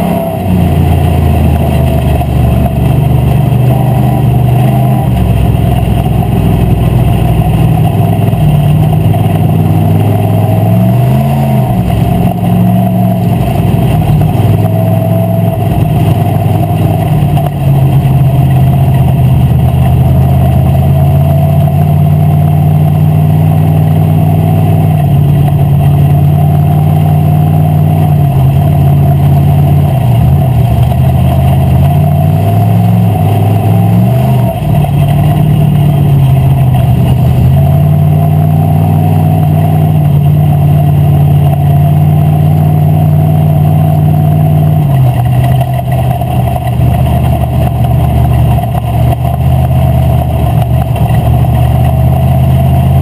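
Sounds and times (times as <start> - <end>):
race car engine running loud: 0.0 - 53.0.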